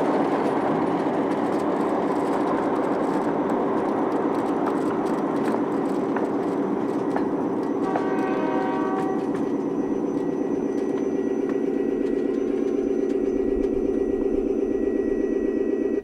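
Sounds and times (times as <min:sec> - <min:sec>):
miniature train pulsing drone: 0:00.0 - 0:16.0.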